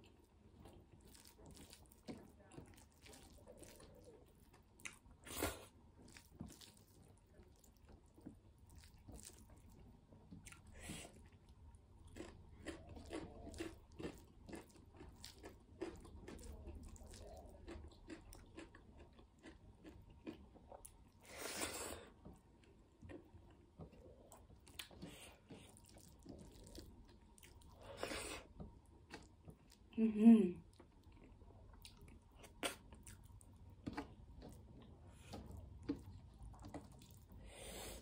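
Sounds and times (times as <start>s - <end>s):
close chewing with crunches: 0.0s - 30.0s, 30.6s - 38.0s.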